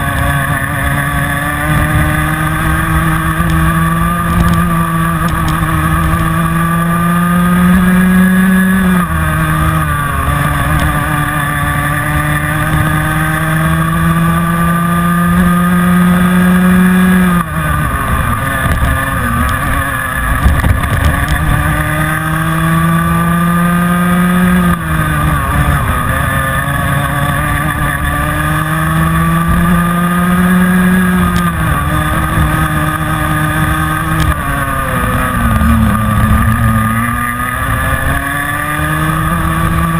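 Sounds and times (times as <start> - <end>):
kart engine at racing speed: 0.0 - 39.9.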